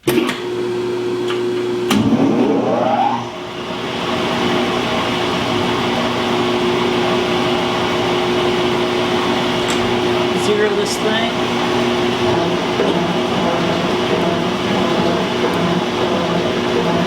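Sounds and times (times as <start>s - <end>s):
electric motor whine: 0.4s - 17.0s.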